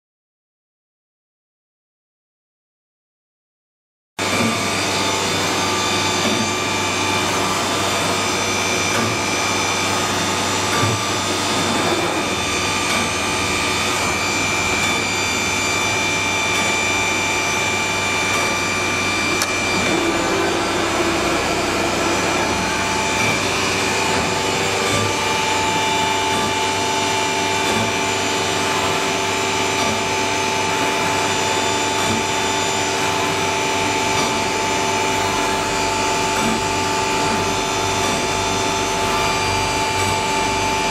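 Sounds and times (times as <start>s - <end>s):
cnc router drilling with whine: 4.2s - 40.9s.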